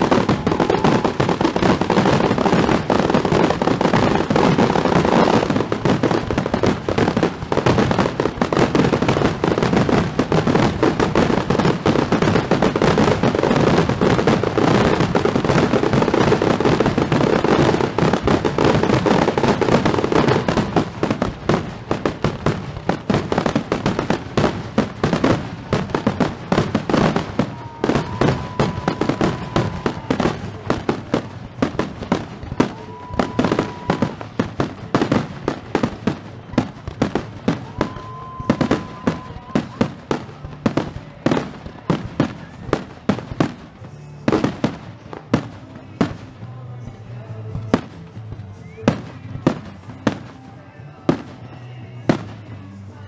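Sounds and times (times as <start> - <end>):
fireworks bangs and crackles: 0.0 - 53.0
music playing: 0.0 - 53.0.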